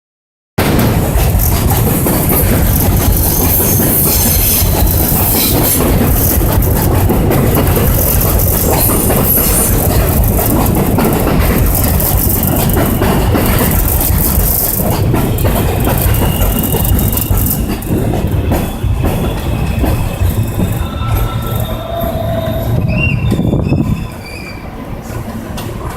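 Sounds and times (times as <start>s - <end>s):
subway train wheels clattering: 0.6s - 25.9s
train wheels squealing: 2.1s - 24.8s.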